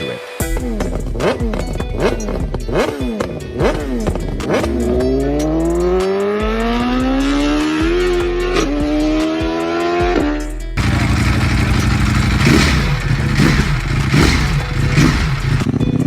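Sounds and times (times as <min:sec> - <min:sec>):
motorcycle engine revving and accelerating: 0:00.6 - 0:16.0.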